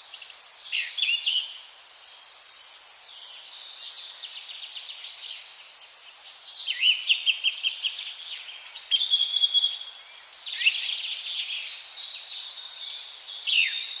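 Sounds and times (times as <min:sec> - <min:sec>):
songbirds singing: 0:00.0 - 0:14.0.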